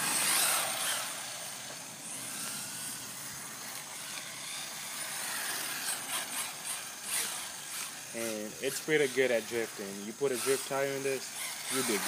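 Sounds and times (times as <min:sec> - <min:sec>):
electric motor whining: 0:00.0 - 0:12.0
tyres hissing on pavement: 0:00.0 - 0:12.0.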